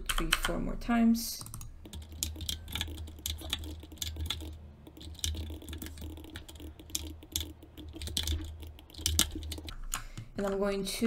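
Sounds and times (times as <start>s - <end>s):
keyboard keys tapping: 1.4s - 10.7s.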